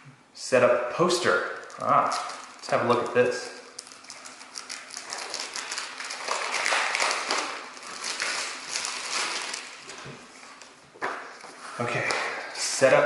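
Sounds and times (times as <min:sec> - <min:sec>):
paper rustling: 0:01.2 - 0:12.3.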